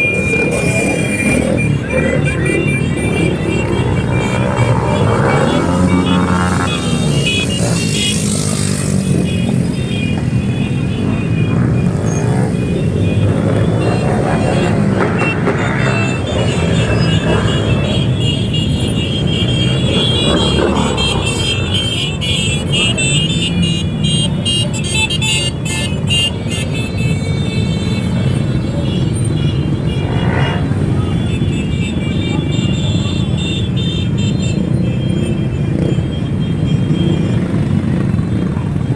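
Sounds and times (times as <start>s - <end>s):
motorcycle engines running: 0.0s - 38.9s.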